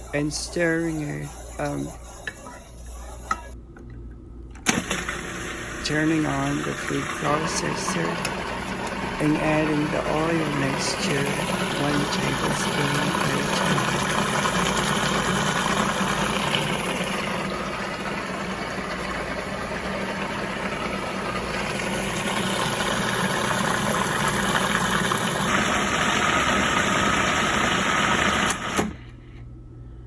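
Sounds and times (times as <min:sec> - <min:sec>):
food processor motor running: 0:04.7 - 0:29.0.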